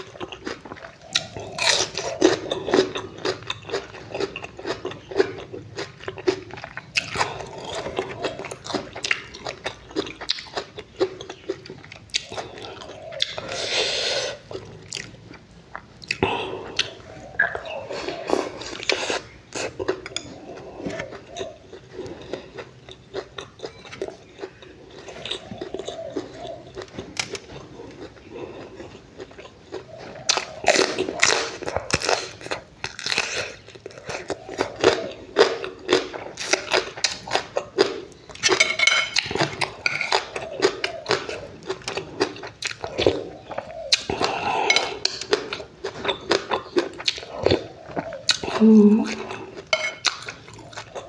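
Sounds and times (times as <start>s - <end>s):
person chewing and crunching food: 0.0s - 51.0s.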